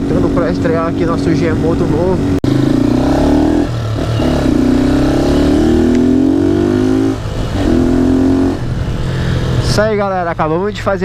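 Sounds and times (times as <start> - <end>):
motorcycle engine accelerating: 0.0 - 9.9.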